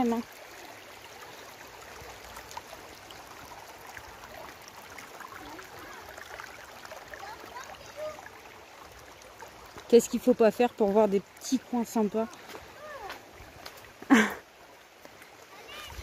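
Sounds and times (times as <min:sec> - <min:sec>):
river water babbling over stones: 0:00.0 - 0:16.0.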